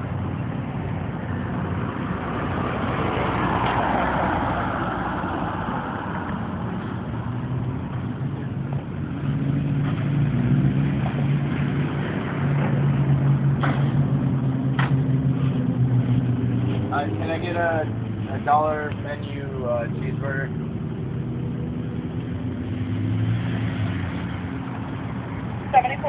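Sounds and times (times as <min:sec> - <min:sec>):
vehicle motor hum and rolling: 0:00.0 - 0:26.0.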